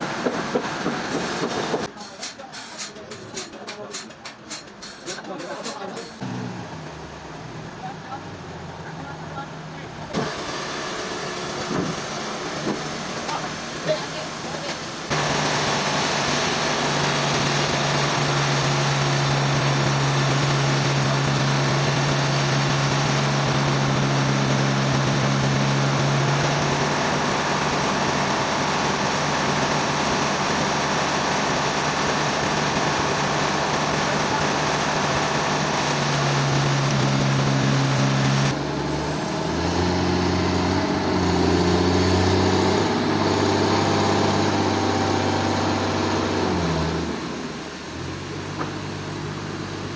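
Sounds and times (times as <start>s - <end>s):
sawmill machinery running: 0.0s - 6.5s, 10.1s - 49.9s.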